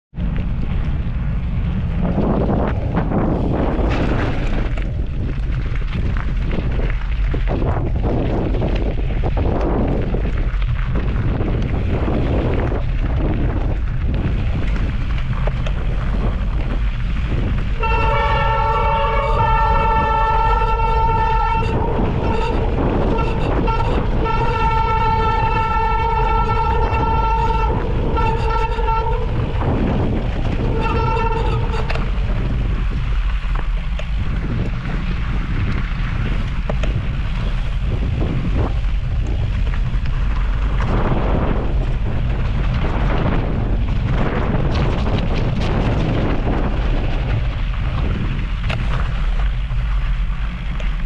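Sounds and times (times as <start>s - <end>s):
riding and wind noise: 0.1s - 51.0s.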